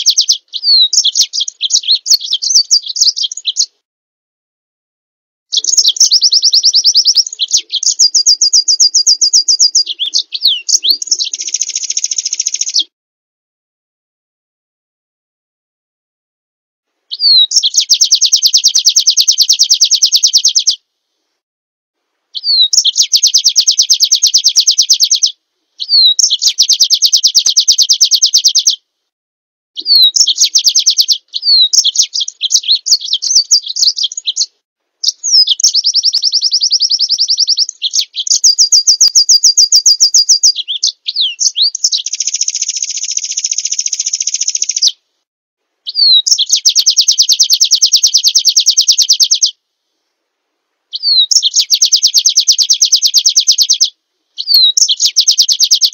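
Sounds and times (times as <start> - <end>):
songbird trills: 0.0 - 3.8, 5.5 - 12.9, 17.1 - 20.8, 22.3 - 28.8, 29.8 - 45.0, 45.8 - 49.6, 50.9 - 55.9.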